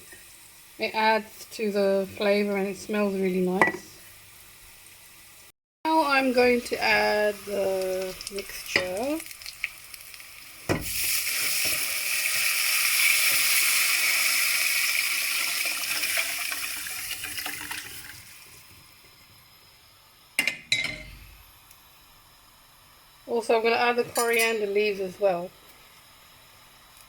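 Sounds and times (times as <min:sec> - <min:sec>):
liquid sizzling in hot oil: 0:00.0 - 0:27.0.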